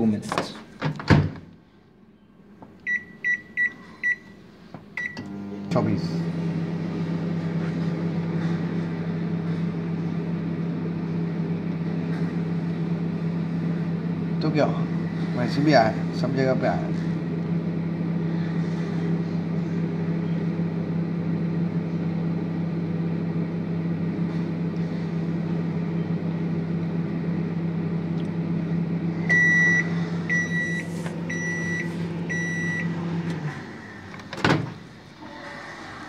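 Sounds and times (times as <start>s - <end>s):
microwave oven humming: 0.0s - 36.0s.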